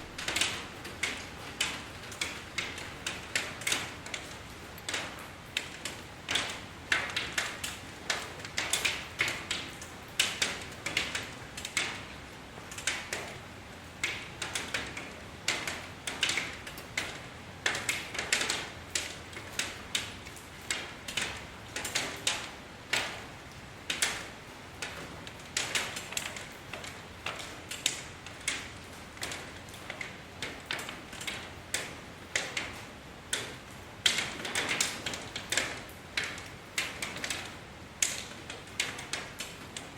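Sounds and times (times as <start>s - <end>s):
raindrops tapping on hard surface: 0.0s - 13.4s, 14.0s - 39.9s.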